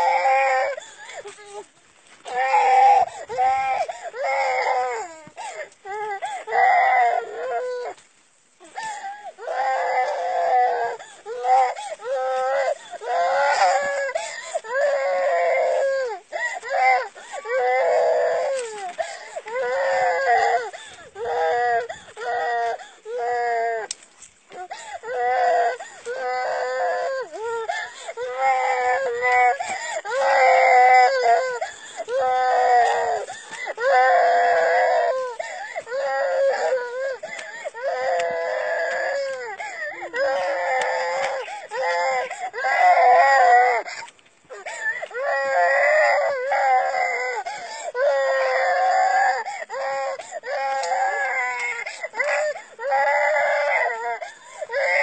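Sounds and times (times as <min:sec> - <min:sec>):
child crying: 0:00.0 - 0:01.7, 0:02.3 - 0:08.0, 0:08.6 - 0:55.0.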